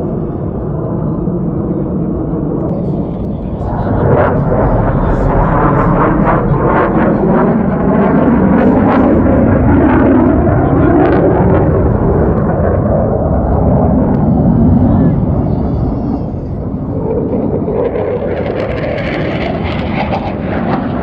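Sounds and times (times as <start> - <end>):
jet roar flying over: 0.0 - 21.0.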